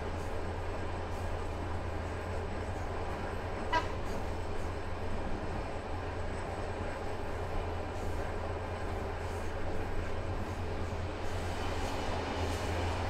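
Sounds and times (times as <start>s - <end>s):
train carriage low drone: 0.0s - 13.0s
train track noise: 0.0s - 13.0s.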